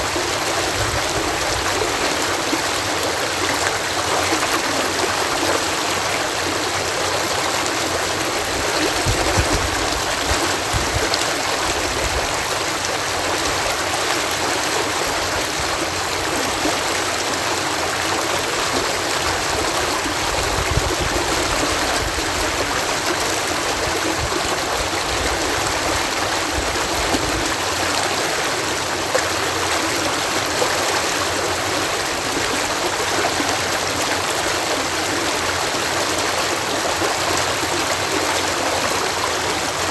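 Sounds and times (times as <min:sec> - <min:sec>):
water rushing through lock: 0:00.0 - 0:39.9.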